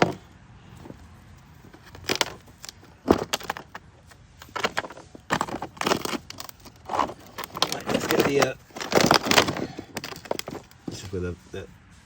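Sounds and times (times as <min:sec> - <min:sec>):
stones scraping and clattering: 0:00.0 - 0:11.2.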